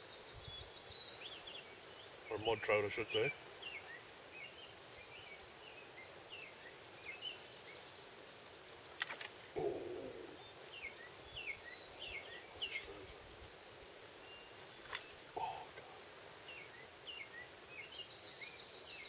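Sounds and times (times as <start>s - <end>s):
faint outdoor hiss: 0.0s - 19.0s
small birds chirping: 0.0s - 19.0s.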